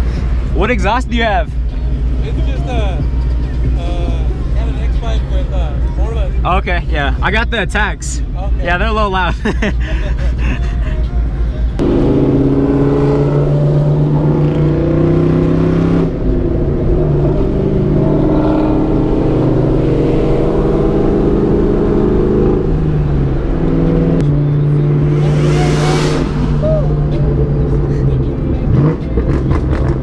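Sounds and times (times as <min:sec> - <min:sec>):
car engine with loud exhaust: 0:00.0 - 0:30.0.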